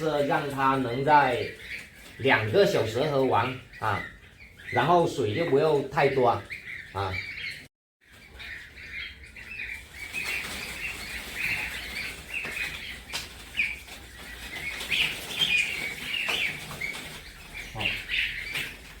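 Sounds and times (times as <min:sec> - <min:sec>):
goslings peeping: 0:00.0 - 0:19.0.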